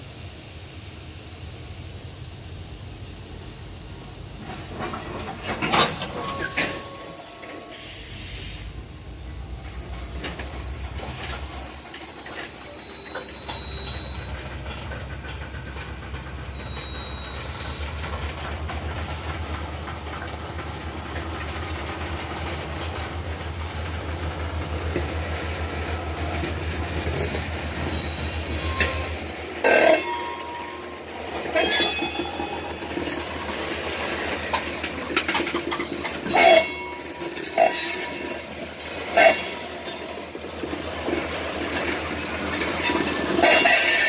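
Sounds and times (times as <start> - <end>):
steel wheels rumbling on rails: 1.8 - 44.0
high wheel squeal: 4.7 - 20.2, 21.1 - 23.1, 23.8 - 44.0.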